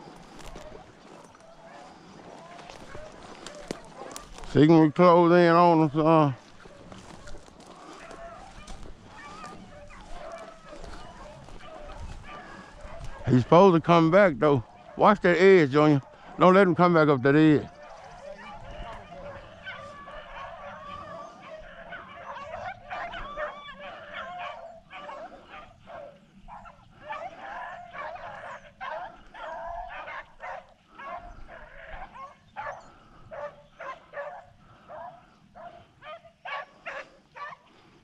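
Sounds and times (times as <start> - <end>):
hounds baying and barking: 0.0 - 38.0.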